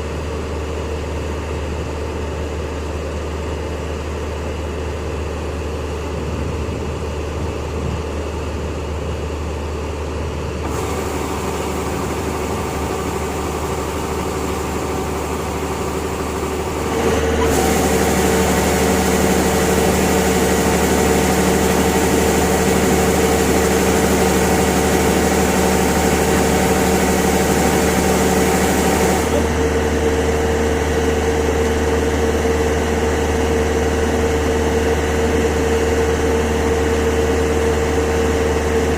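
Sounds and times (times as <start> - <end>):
farm machinery engine running: 0.0 - 38.9.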